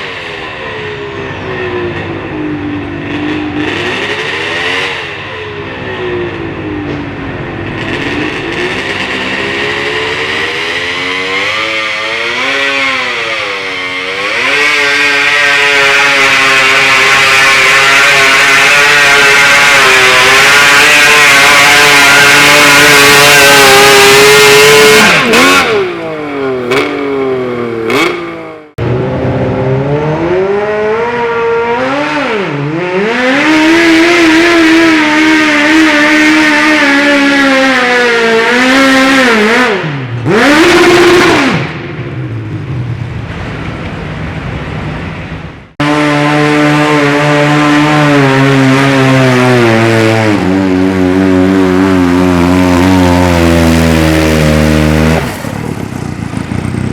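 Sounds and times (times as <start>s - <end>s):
tractor engines revving under load: 0.0s - 56.9s.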